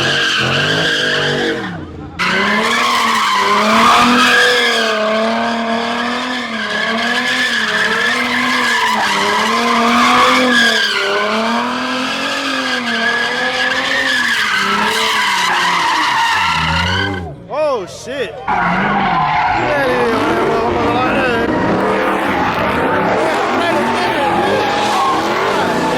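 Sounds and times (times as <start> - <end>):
car engine at high revs: 0.0 - 17.5, 18.4 - 25.9
tires squealing: 0.0 - 25.9.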